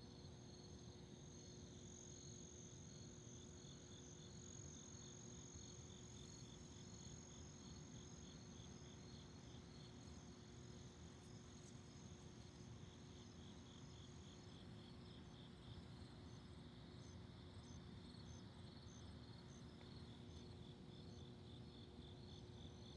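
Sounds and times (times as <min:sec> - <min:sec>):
cricket chirping: 0:00.1 - 0:22.9.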